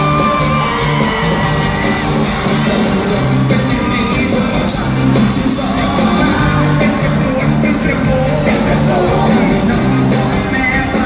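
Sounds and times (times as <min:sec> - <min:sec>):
fans yelling and whooping: 0:00.0 - 0:11.0
live band with singer: 0:00.0 - 0:11.0.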